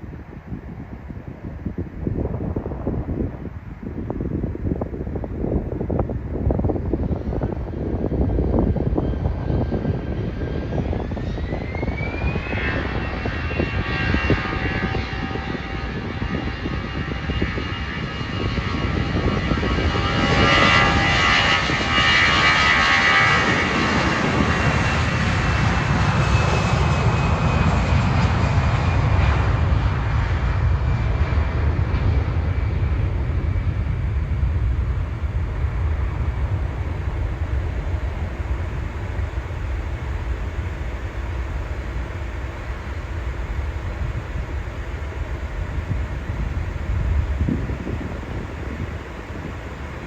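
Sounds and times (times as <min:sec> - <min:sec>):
deep rumble: 0:00.0 - 0:50.0
jet engines whining and roaring: 0:00.0 - 0:50.0.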